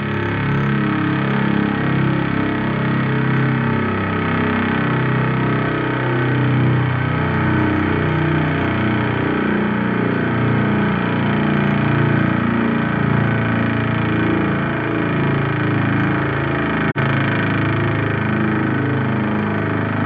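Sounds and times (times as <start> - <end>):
air raid siren low growl: 0.0 - 20.0.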